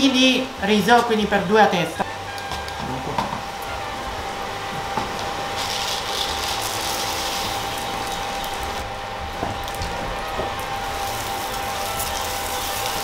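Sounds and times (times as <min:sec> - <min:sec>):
induction hob high whine: 0:00.0 - 0:13.0
pan sizzling: 0:00.0 - 0:13.0.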